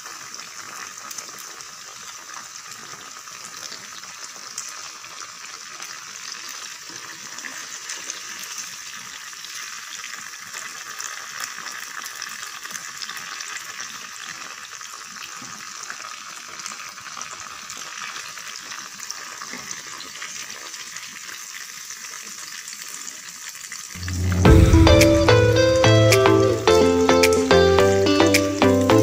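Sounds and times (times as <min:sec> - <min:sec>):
tofu sizzling in hot oil: 0:00.0 - 0:24.0.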